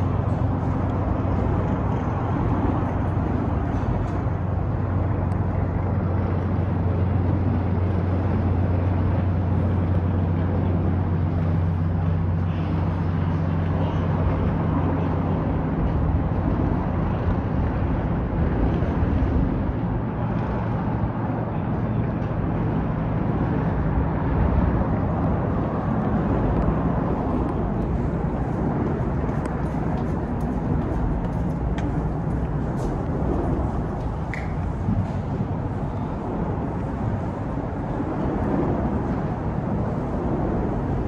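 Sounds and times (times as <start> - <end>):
engine hum: 0.0 - 41.0
low rumble of traffic: 0.0 - 41.0.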